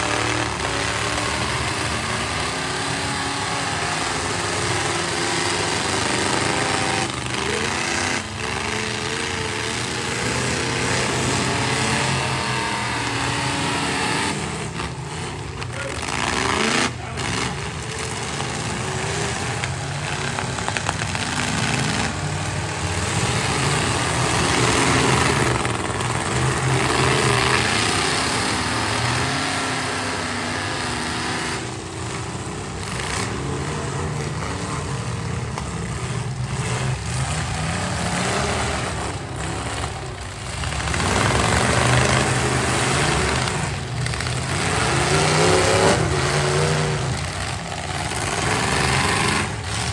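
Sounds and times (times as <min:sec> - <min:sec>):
truck engines revving: 0:00.0 - 0:49.9.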